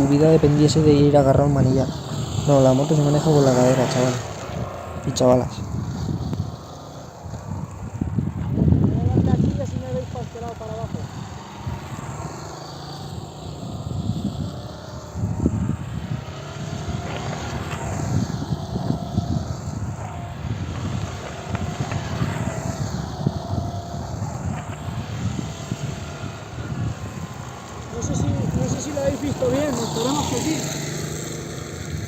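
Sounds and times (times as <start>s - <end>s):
motorcycle engine passing by: 0.0s - 32.0s
rain and wind: 0.0s - 32.0s.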